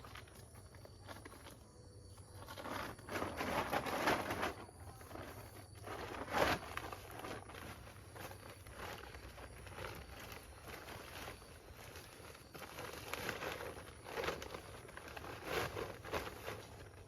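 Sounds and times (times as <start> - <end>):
pineapples rustling and knocking in sack: 0.0 - 17.0.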